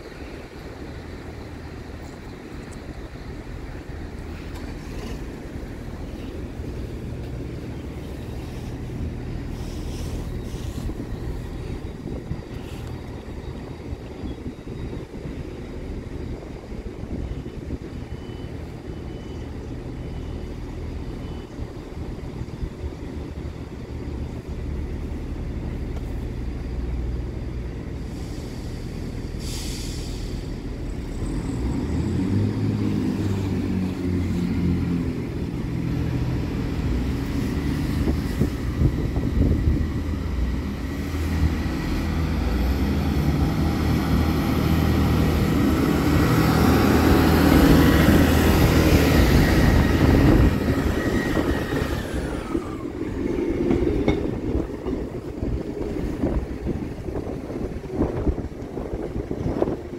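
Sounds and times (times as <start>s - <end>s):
diesel train engines accelerating: 0.0s - 59.9s.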